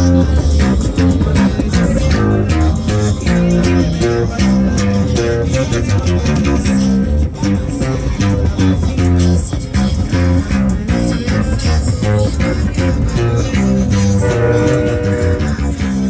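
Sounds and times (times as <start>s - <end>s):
acoustic bass guitar plucking: 0.0s - 16.0s.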